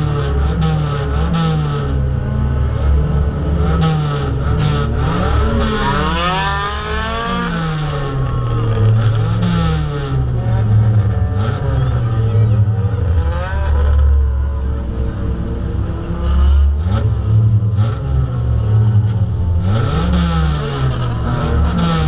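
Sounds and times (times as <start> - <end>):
car engine revving: 0.0 - 22.0
other car engines: 0.0 - 22.0.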